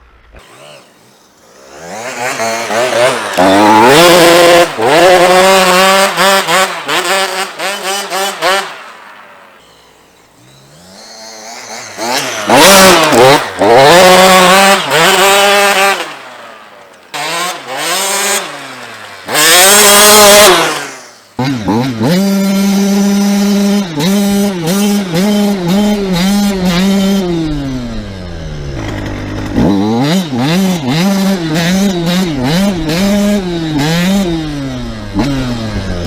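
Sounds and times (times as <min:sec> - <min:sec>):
motocross bike engine revving: 0:00.0 - 0:36.0.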